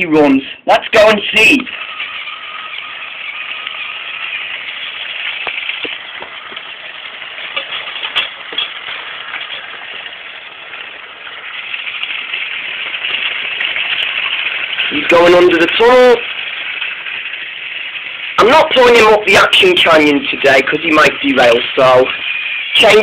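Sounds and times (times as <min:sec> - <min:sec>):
toy train motor whirring: 0:00.0 - 0:23.0.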